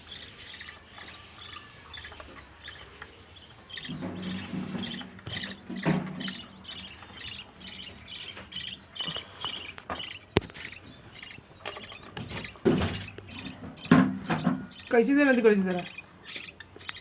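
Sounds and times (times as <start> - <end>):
budgie chicks chirping: 0.0 - 17.0.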